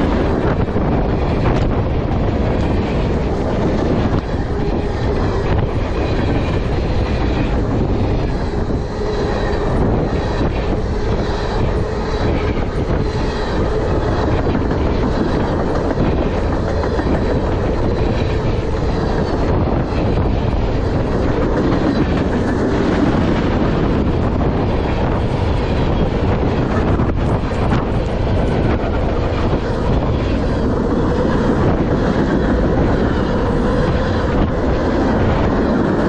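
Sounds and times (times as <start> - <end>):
steel wheels on rails: 0.0 - 36.0
wheels clickety-clack over joints: 0.0 - 36.0.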